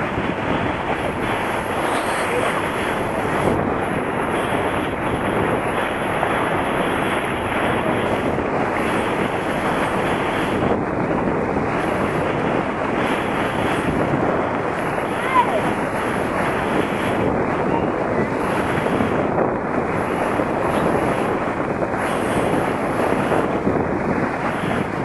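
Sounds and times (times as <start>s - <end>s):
water washing past hull: 0.0s - 25.0s
wind buffeting microphone: 0.0s - 25.0s.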